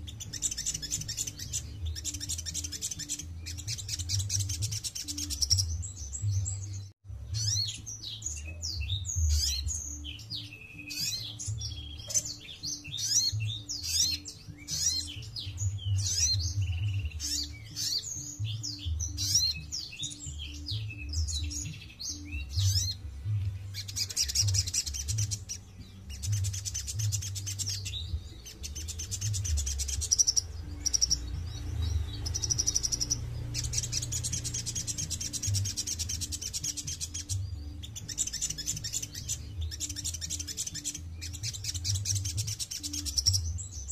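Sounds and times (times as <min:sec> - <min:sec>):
bird singing high chirps and trills: 0:00.0 - 0:43.9.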